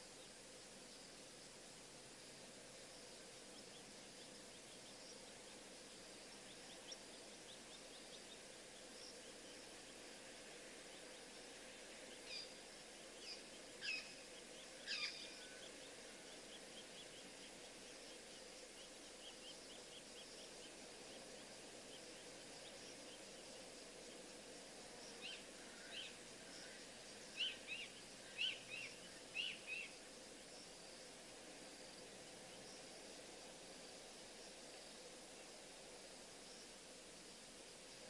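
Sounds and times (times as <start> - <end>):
steady hiss: 0.0 - 38.0.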